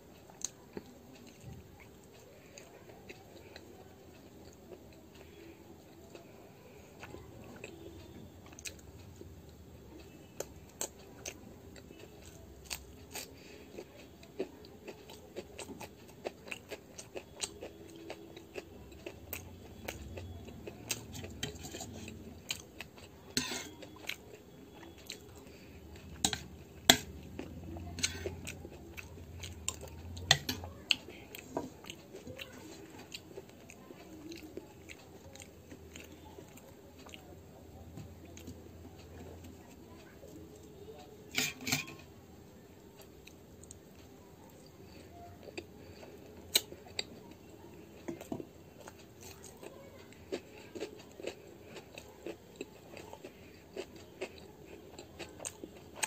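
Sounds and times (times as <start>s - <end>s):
person chewing: 0.1s - 37.3s, 43.0s - 56.0s.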